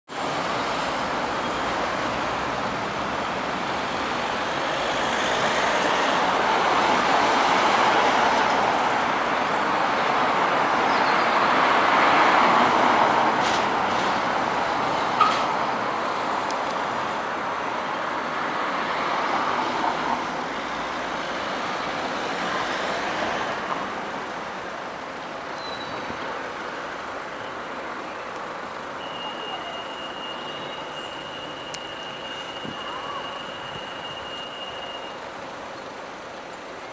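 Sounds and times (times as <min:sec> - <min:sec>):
road traffic driving past: 0:00.1 - 0:36.9.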